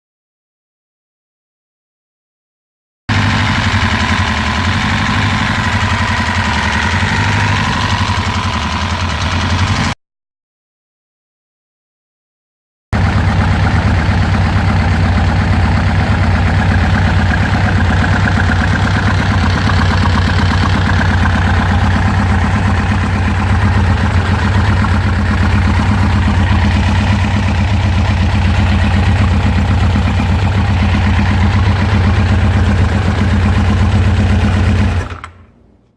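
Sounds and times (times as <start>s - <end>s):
motorcycle engine idling: 3.1s - 10.0s, 13.0s - 35.5s.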